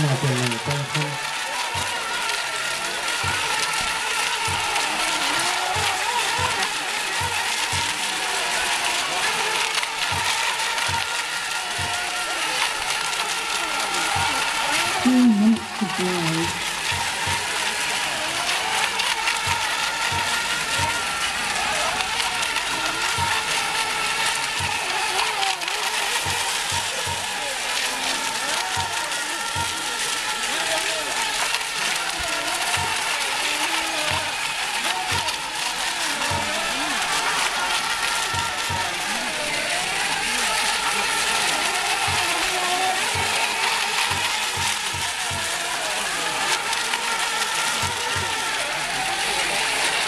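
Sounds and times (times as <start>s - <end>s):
rc boat motors whining: 0.0s - 50.0s.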